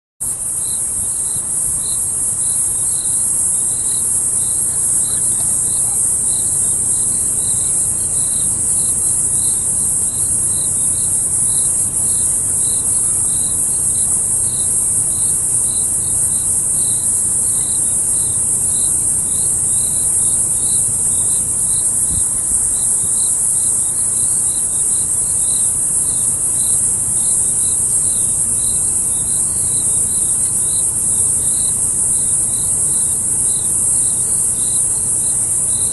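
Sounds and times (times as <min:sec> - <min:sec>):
insects droning shrilly: 0:00.2 - 0:35.9
lower insect chirp pulsing: 0:00.2 - 0:35.9.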